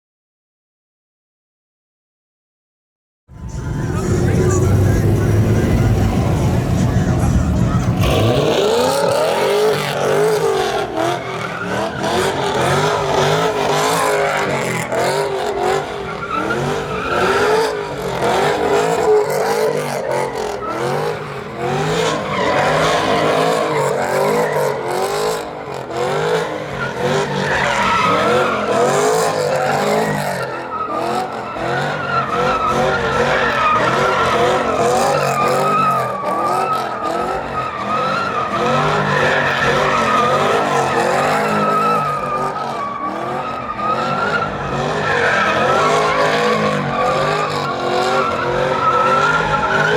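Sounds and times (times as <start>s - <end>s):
truck engine revving: 3.3s - 49.9s
tyres squealing: 3.5s - 49.9s.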